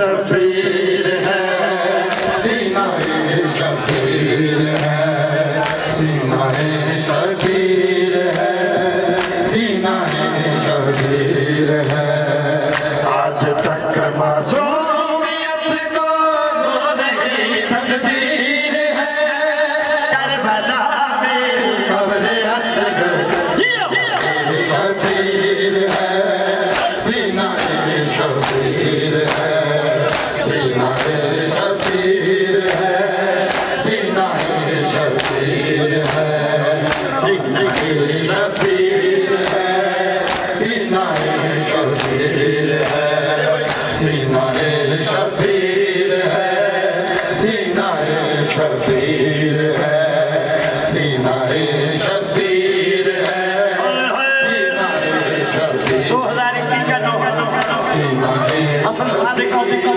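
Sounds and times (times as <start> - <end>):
men chanting a lament: 0.0 - 59.9.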